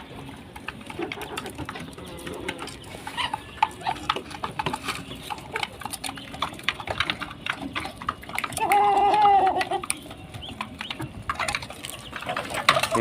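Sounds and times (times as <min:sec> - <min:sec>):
ducklings peeping: 0:00.0 - 0:13.0
pigeons cooing: 0:00.0 - 0:13.0.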